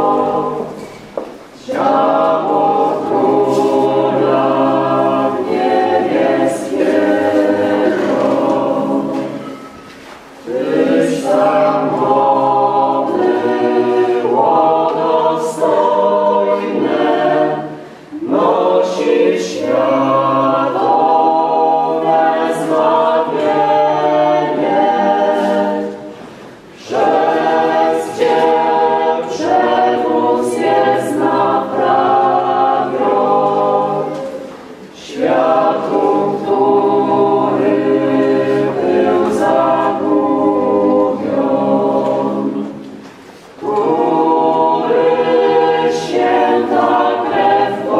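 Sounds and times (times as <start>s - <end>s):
church choir singing a hymn: 0.0s - 47.9s.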